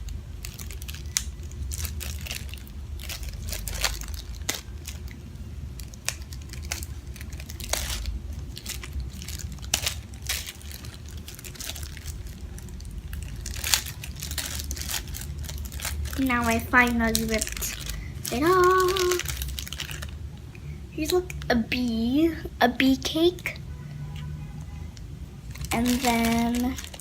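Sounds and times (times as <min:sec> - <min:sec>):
plastic bag crinkling: 0:00.0 - 0:22.0, 0:25.0 - 0:27.0
steady low hum: 0:00.0 - 0:27.0.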